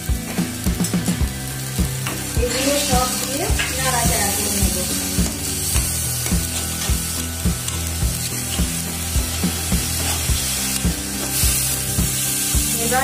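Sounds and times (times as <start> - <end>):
background music: 0.0 - 13.0
spice paste sizzling in oil: 0.0 - 13.0.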